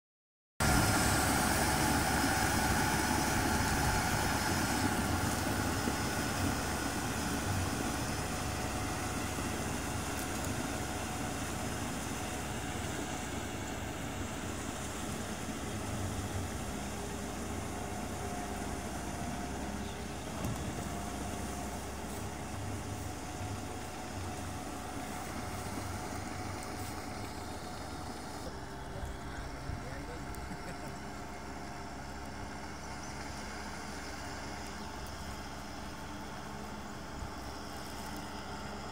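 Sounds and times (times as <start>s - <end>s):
tractor diesel engine running: 0.6s - 38.9s.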